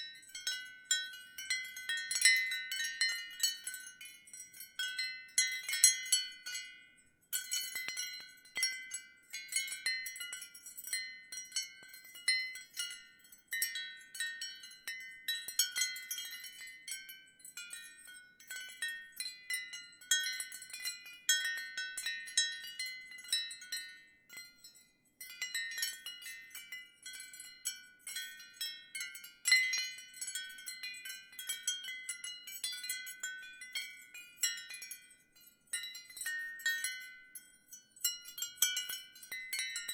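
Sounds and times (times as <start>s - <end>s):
ceramic wind chime clinking: 0.0s - 39.9s.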